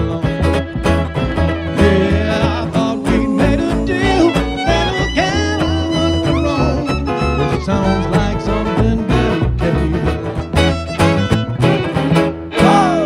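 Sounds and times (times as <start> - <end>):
fiddle melody with sliding notes: 0.0 - 13.0
steady bass beat: 0.0 - 13.0.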